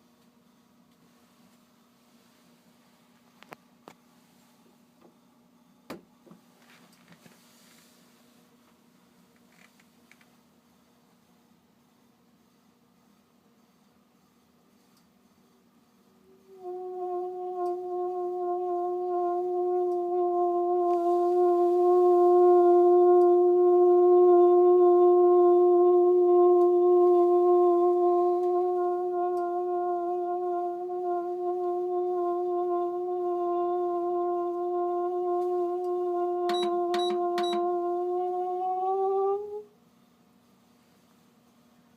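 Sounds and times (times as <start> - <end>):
fan heater humming tone: 0.0 - 41.9.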